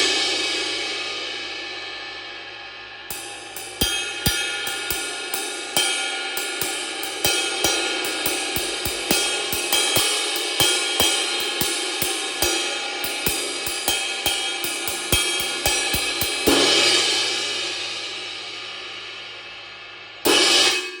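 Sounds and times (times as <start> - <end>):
ride cymbal played with stick: 0.0 - 21.0.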